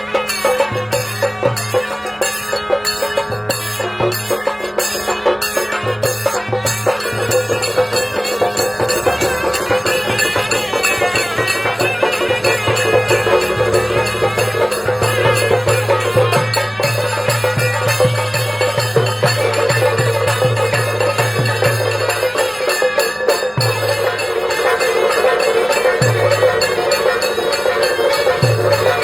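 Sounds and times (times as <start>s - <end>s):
folk music with percussion beat: 0.0s - 29.0s.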